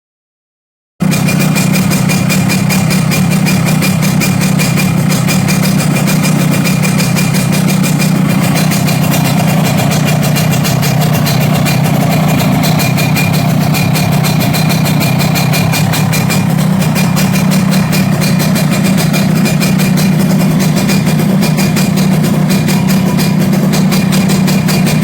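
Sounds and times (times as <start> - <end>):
motorcycle engine idling: 1.0 - 25.0.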